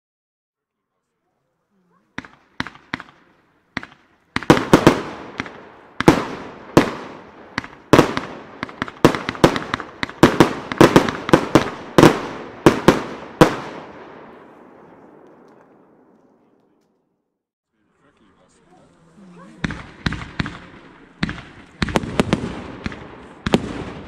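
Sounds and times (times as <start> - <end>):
fireworks bangs: 2.1 - 16.9, 19.4 - 24.0
echo: 2.1 - 17.2, 19.2 - 24.0.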